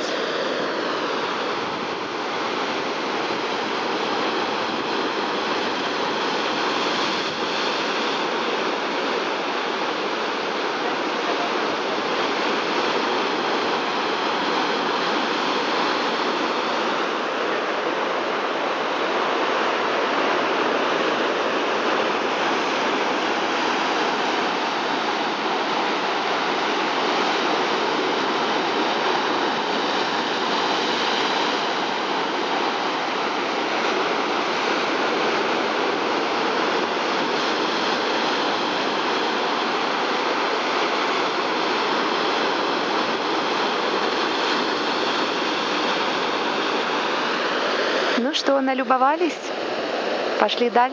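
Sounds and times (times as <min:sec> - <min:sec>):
sea surf churning around rocks: 0:00.0 - 0:50.9.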